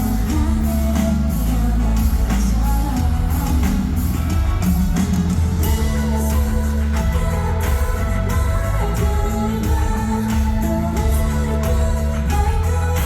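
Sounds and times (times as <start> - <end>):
bass guitar: 0.0 - 13.0
drums: 0.0 - 13.0
electric guitar: 0.0 - 13.0
person singing: 0.0 - 13.0.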